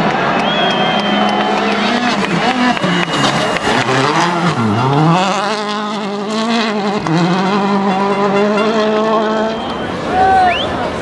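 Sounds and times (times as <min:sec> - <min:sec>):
rally car engine revving: 0:00.6 - 0:11.0.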